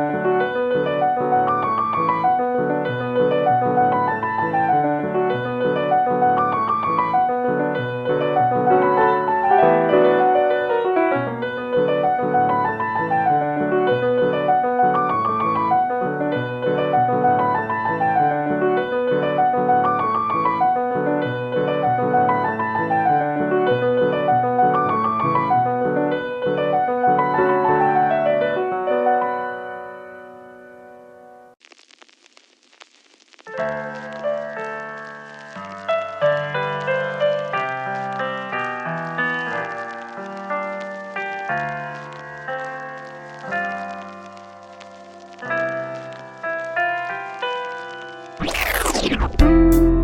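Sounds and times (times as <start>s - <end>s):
gentle piano melody: 0.0s - 31.6s, 33.5s - 48.4s.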